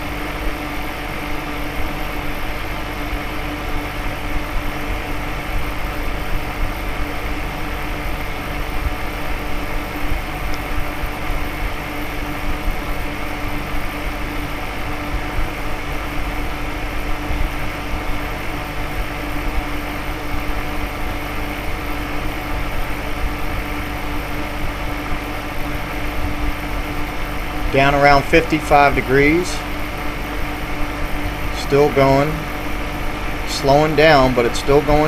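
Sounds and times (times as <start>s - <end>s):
fan whirring with hum: 0.0s - 35.0s.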